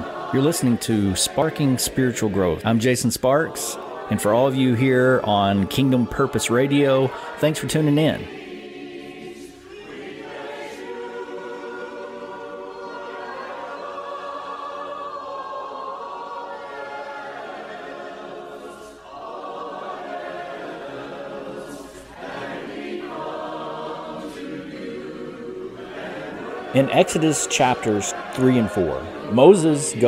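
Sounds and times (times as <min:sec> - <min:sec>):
choir singing unaccompanied: 0:00.0 - 0:30.0.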